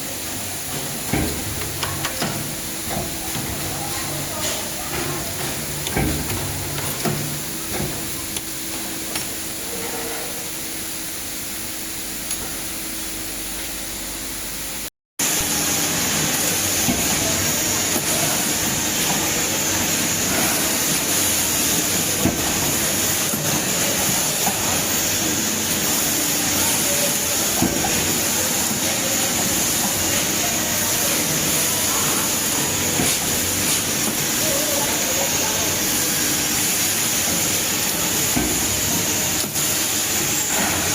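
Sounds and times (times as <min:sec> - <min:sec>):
wire-bending machine hum and hiss: 0:00.0 - 0:40.9.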